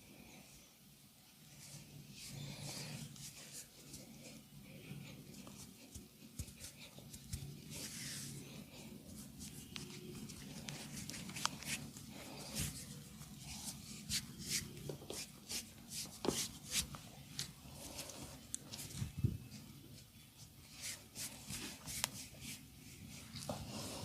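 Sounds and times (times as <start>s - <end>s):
hands rubbing with dry rustling: 1.5s - 24.0s.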